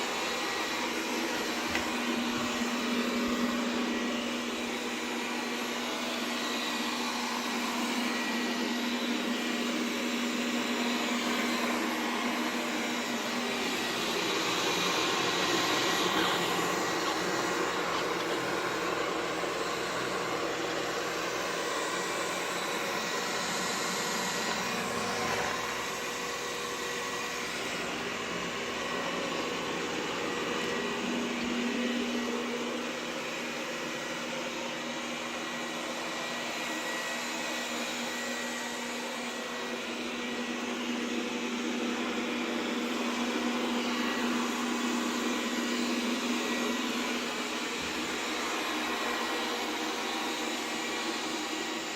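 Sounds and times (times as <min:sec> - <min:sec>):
robot vacuum whirring: 0:00.0 - 0:51.9.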